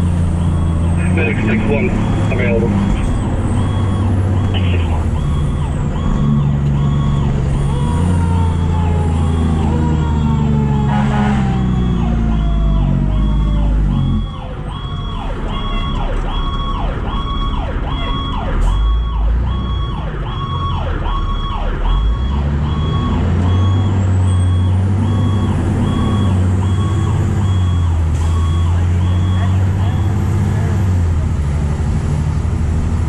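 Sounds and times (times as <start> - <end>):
fire truck siren yelping: 0.0 - 30.3
diesel engine: 0.0 - 33.0
slow falling siren tone: 0.4 - 29.5.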